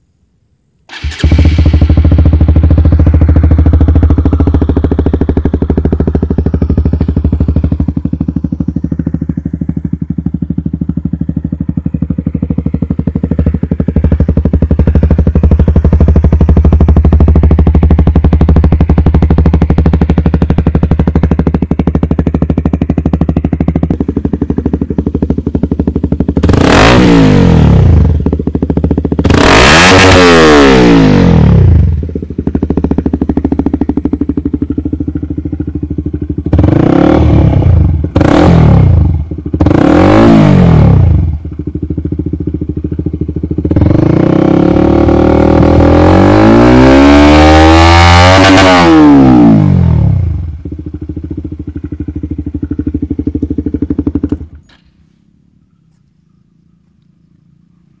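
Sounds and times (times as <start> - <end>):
engine idling and revving: 0.8 - 58.0.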